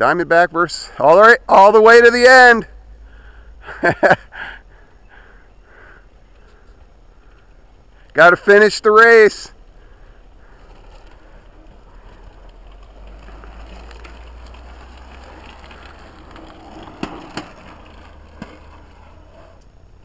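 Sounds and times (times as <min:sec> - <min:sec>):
bike tyres rolling on track: 0:00.0 - 0:20.0.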